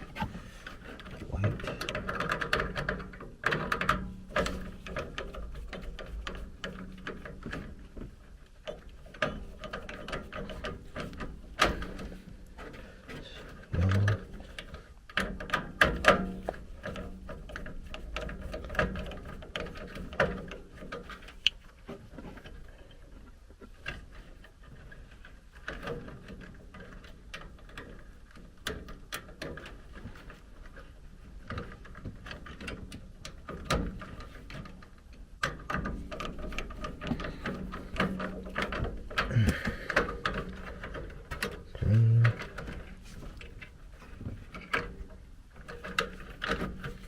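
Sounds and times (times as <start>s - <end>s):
small clicks and scrapes of hand work: 0.0s - 47.0s.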